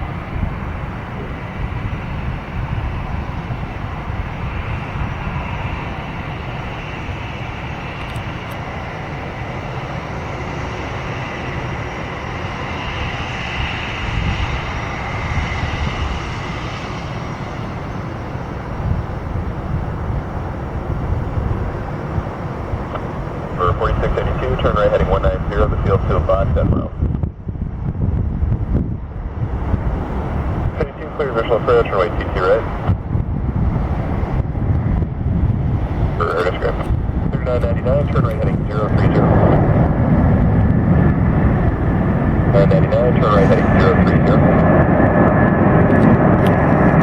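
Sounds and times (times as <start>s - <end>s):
jet engine rumble and whine: 0.0s - 47.0s.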